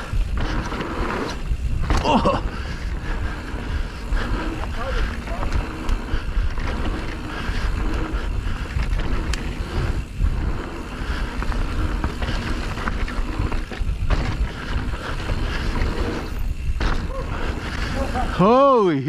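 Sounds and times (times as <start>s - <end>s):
low rumble: 0.0s - 18.4s
wind on microphone: 0.0s - 18.4s
bike clicks and knocks: 0.0s - 18.6s.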